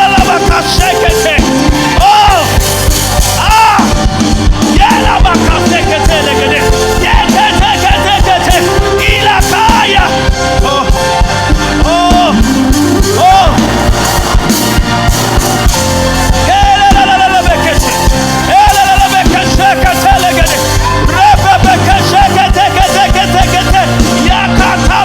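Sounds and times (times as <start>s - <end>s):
drums steady beat: 0.0s - 25.0s
live church band music: 0.0s - 25.0s
person singing: 3.3s - 15.5s, 16.3s - 25.0s.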